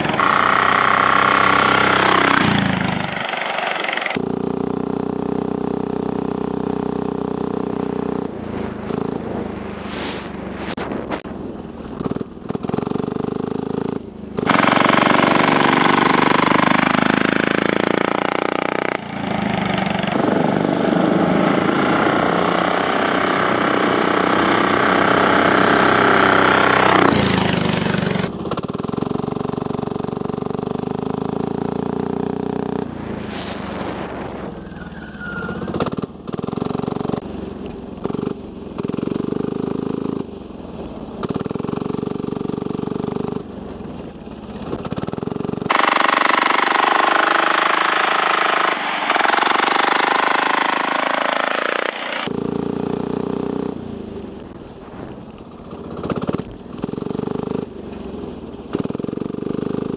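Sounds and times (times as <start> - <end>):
small diesel engine revving: 0.0 - 10.7, 11.7 - 40.3, 44.4 - 54.5, 55.8 - 59.9.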